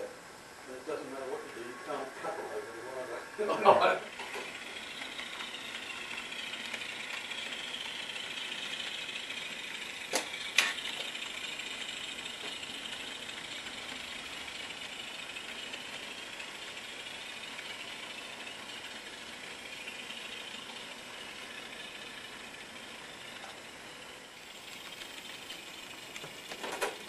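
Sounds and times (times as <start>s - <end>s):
tinny diesel engine sound: 0.0s - 27.0s.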